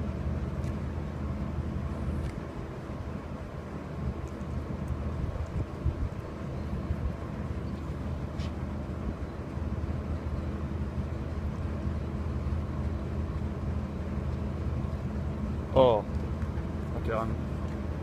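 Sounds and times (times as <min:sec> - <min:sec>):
low machine hum: 0:00.0 - 0:18.0
noisy rumble: 0:00.0 - 0:18.0.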